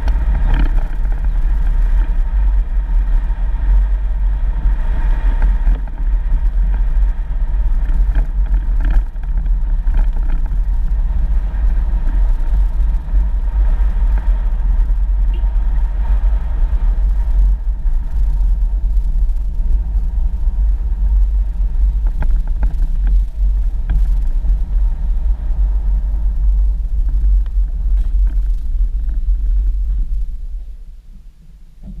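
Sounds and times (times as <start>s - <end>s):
vehicle driving on dirt road: 0.0s - 32.0s.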